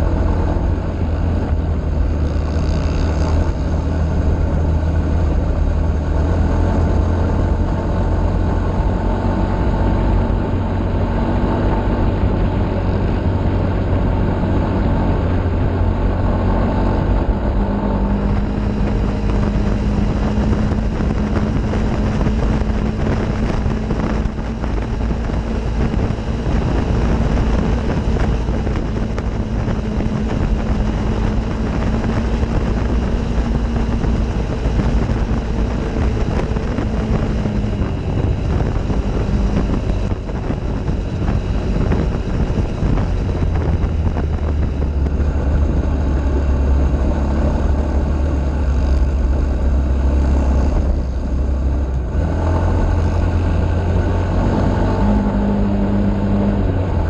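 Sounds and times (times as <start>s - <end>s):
vehicle engine running: 0.0s - 57.0s
wind on microphone: 0.0s - 57.0s.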